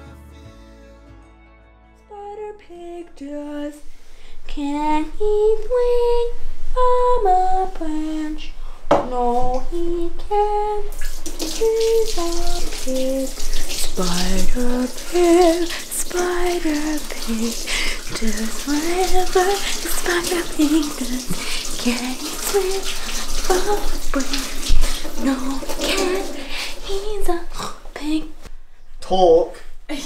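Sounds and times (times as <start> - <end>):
woman singing unaccompanied: 2.0 - 3.8, 4.5 - 28.4.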